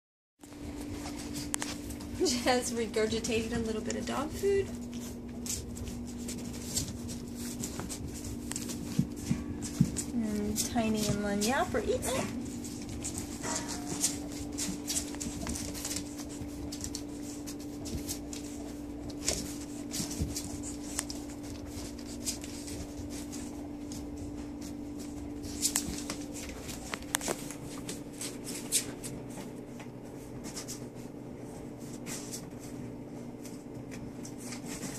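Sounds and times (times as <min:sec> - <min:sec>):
rustling of bedding: 0:00.4 - 0:34.9
steady low hum: 0:00.4 - 0:34.9
puppies suckling: 0:00.5 - 0:34.9.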